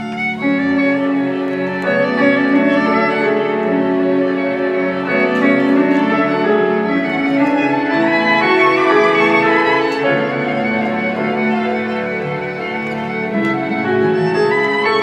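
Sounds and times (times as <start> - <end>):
cello notes: 0.0 - 15.0
violin notes: 0.0 - 15.0.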